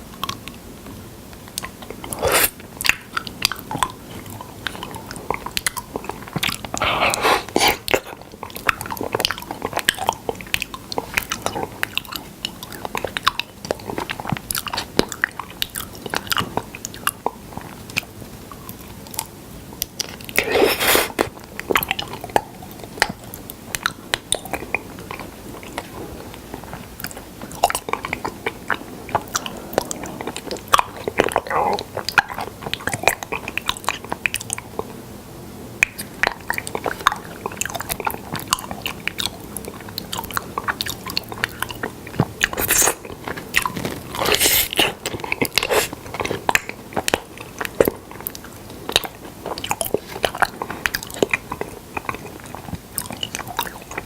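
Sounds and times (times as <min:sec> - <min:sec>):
person chewing sticky food: 0:00.0 - 0:35.1, 0:35.7 - 0:54.0.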